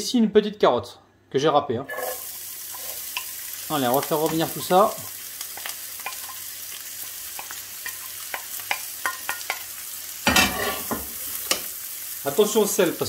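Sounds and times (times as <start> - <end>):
vegetables sizzling in hot oil: 1.9 - 13.0.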